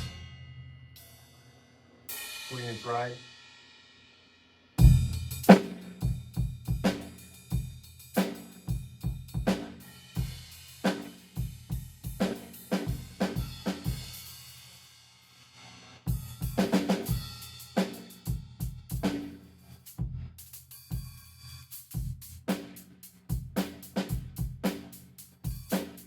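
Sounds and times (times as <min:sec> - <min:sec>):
drum kit played with sticks: 0:00.0 - 0:04.0, 0:04.7 - 0:26.0.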